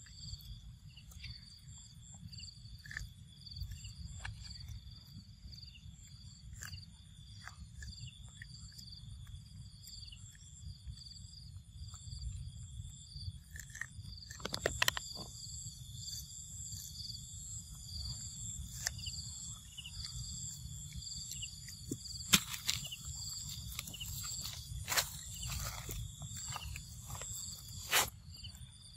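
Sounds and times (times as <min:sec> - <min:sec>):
insects chirring: 0:00.0 - 0:28.9.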